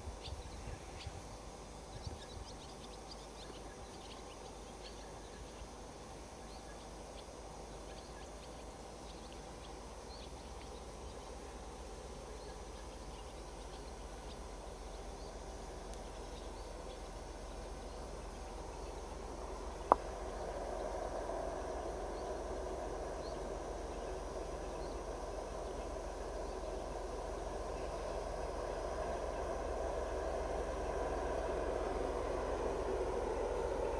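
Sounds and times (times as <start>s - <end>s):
diesel locomotive engine drone: 0.0s - 33.9s.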